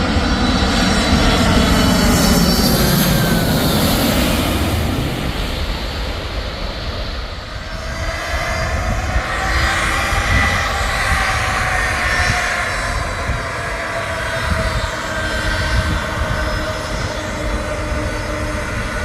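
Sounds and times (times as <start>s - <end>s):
airliner engine rush: 0.0s - 19.0s.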